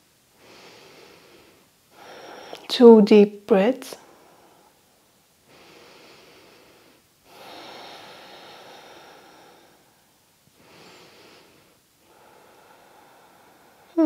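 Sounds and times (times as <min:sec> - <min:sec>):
woman breathing deeply: 0:00.3 - 0:02.7, 0:04.0 - 0:14.0.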